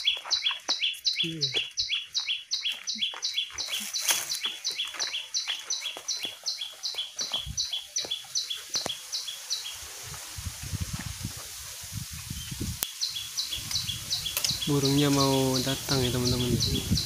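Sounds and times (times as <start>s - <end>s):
bird chirping: 0.0s - 9.9s, 12.3s - 17.0s.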